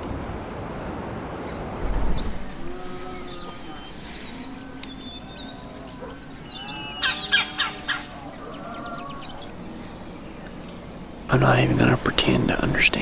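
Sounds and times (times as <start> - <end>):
birds calling and chirping: 1.3 - 13.0.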